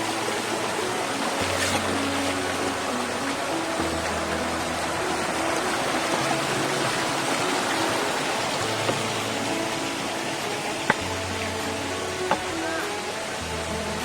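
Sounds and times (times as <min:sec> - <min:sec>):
soft background music: 0:00.0 - 0:14.0
waterfall rushing: 0:00.0 - 0:14.0.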